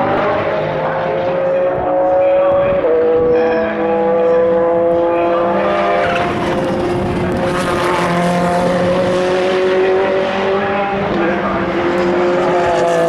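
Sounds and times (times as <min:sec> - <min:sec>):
race car engines high-revving: 0:00.0 - 0:13.0
race car rushing pass: 0:00.0 - 0:13.0.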